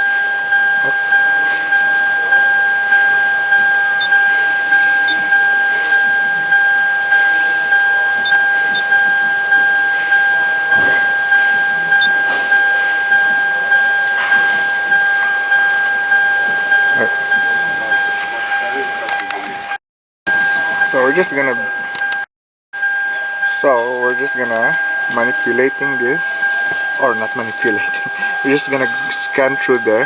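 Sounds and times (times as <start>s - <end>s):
car two-note warning chime: 0.0s - 22.2s, 22.8s - 30.0s.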